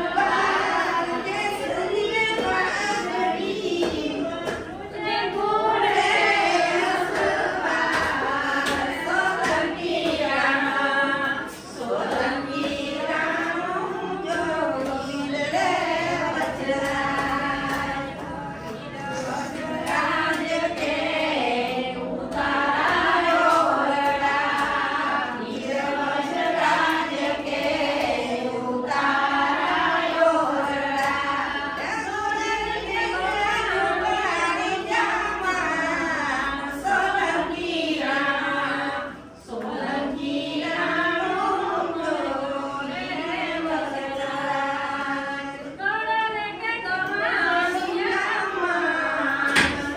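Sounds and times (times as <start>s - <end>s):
people talking: 0.0s - 49.9s
women singing together: 0.0s - 49.9s.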